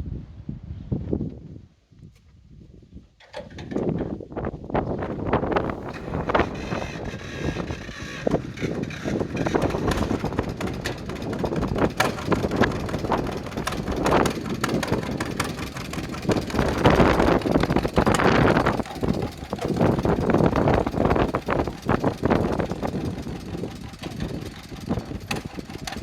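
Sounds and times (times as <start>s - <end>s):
tractor engine exhaust popping: 4.8s - 26.0s.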